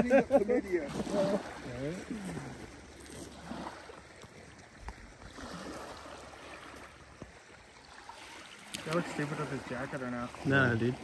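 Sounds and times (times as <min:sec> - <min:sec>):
waves lapping on gravel shore: 0:00.0 - 0:11.0.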